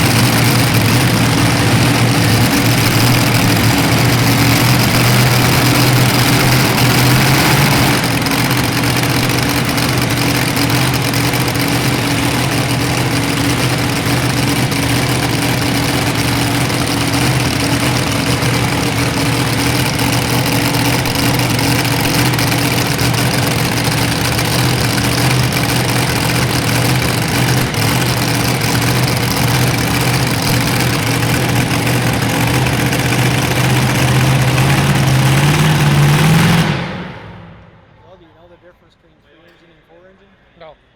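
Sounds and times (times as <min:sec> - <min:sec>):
vehicle engine running loudly: 0:00.0 - 0:38.0.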